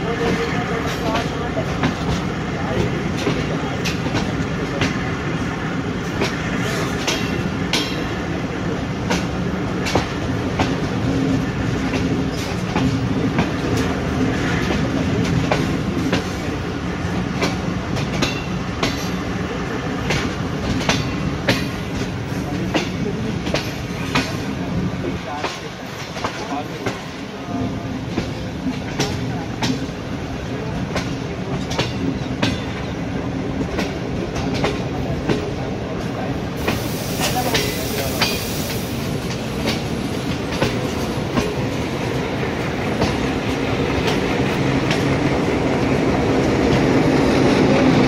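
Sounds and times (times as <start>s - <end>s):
train rumble: 0.0s - 48.0s
train wheels clicking over rail joints: 0.2s - 48.0s.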